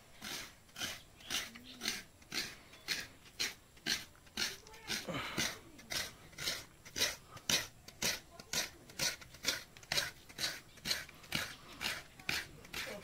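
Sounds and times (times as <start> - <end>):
coconut grater rasping: 0.0 - 13.0.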